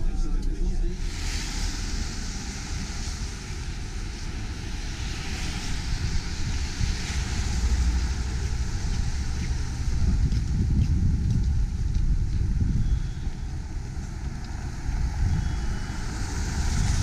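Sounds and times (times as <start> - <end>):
road traffic on wet road: 0.3 - 17.0
car tyres hissing past: 1.0 - 17.0
wind buffeting microphone: 1.0 - 17.0.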